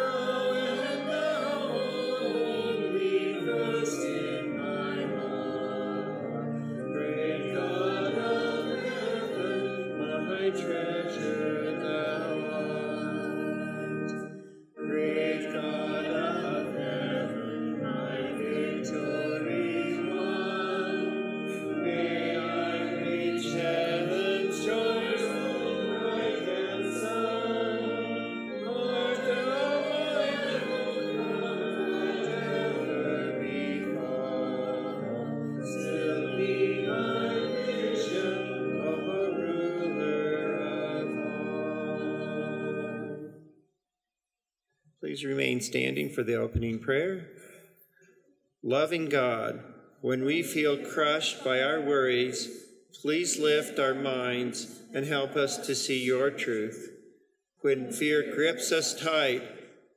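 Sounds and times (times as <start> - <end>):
congregation singing a hymn: 0.0 - 43.5, 48.8 - 56.9, 57.6 - 59.7.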